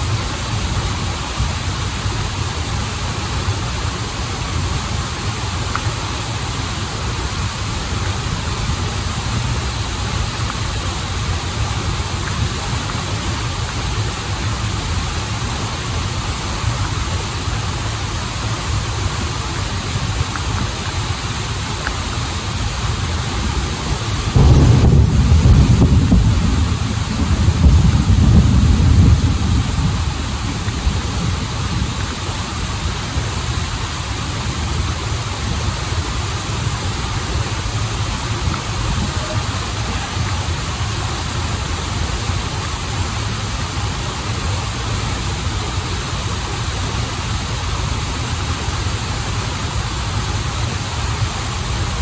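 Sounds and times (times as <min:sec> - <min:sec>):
stream and waterfall rushing: 0:00.0 - 0:52.0.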